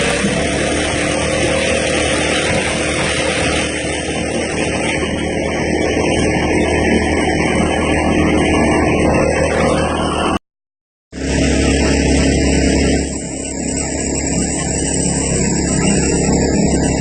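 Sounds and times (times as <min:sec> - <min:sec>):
lawnmower engine running: 0:00.0 - 0:10.4, 0:11.1 - 0:17.0.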